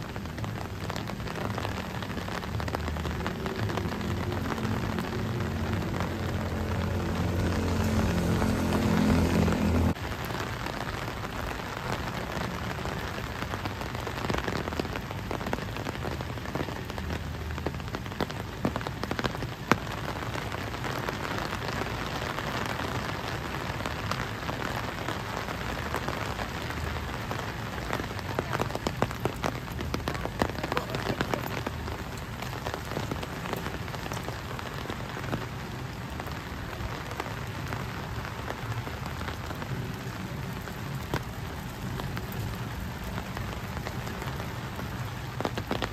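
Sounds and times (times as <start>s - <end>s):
raindrops ticking: 0.0s - 45.9s
steady rain falling: 0.0s - 45.9s.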